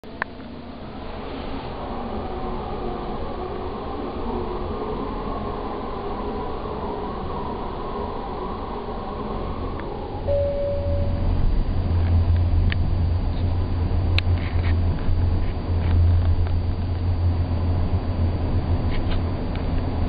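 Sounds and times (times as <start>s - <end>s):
passenger train rumbling: 0.5s - 20.0s
train whining: 0.6s - 20.0s.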